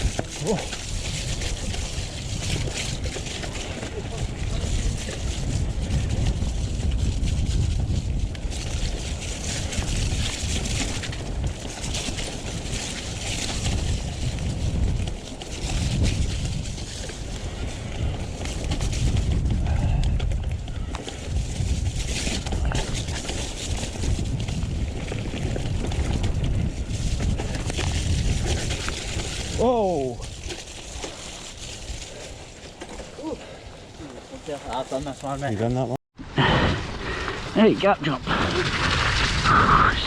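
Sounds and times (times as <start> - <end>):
bike tyre and trail noise: 0.0 - 40.0
wind buffeting microphone: 0.0 - 40.0.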